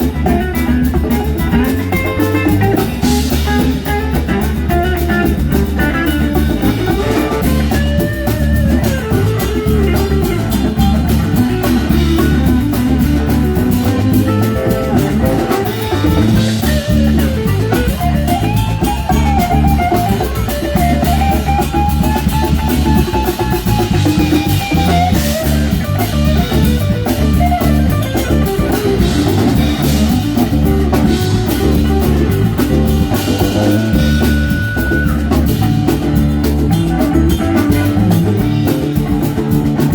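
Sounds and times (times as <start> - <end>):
bass: 0.0 - 39.9
drum kit: 0.0 - 39.9
guitar: 0.0 - 39.9.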